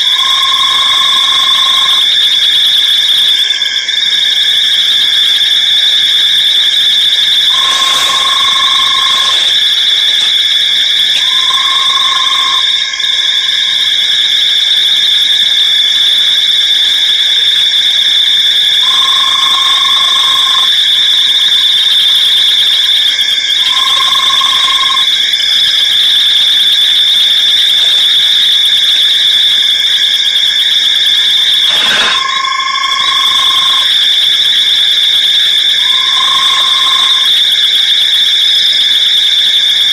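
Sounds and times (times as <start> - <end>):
insects trilling: 0.0 - 16.0, 16.6 - 38.8.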